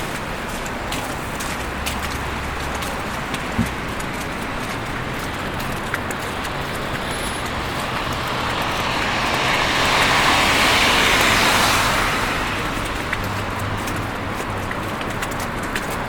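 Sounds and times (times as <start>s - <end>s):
car passing: 0.0s - 16.0s
city traffic: 0.0s - 16.0s.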